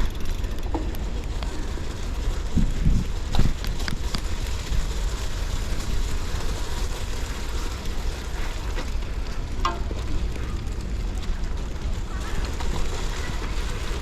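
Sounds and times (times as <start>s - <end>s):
bike tyres hissing on snow: 0.0s - 14.0s
wind rumble on microphone: 0.0s - 14.0s.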